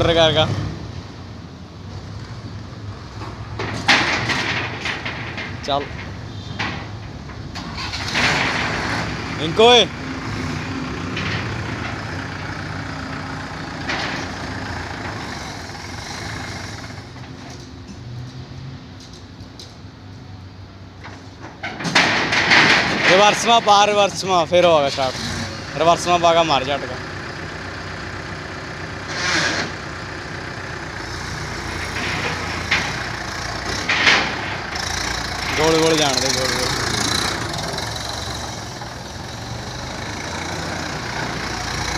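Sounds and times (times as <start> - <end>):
tractor diesel engine running: 1.1 - 17.9, 19.0 - 41.9.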